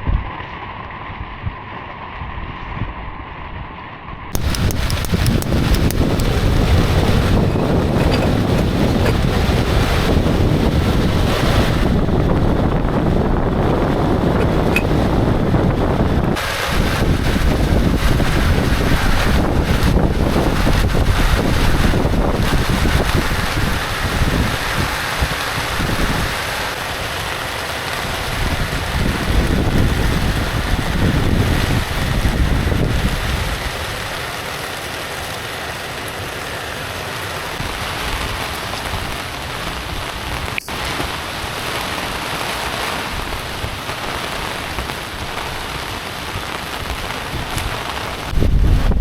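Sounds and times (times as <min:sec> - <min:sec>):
wind buffeting microphone: 0:01.1 - 0:26.5, 0:28.0 - 0:34.8, 0:37.5 - 0:49.0.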